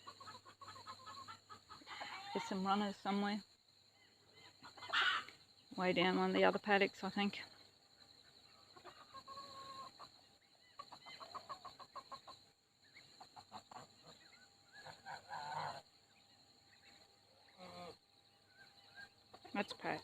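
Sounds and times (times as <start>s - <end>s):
faint poultry calls: 0.0s - 5.8s, 7.4s - 20.0s.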